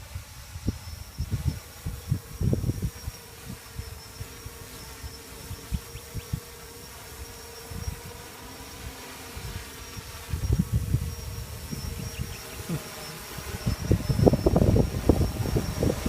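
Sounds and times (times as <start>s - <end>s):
wind rumbling on microphone: 0.0s - 6.6s, 7.2s - 16.0s
drone buzzing: 0.0s - 16.0s.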